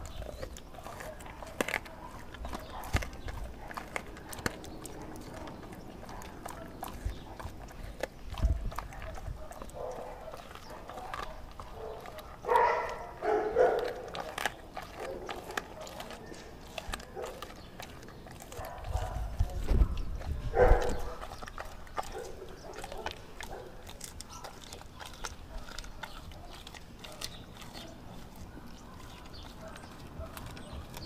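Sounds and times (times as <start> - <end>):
dog chewing and smacking: 0.0 - 31.0
teeth clicking and crunching: 0.0 - 31.0.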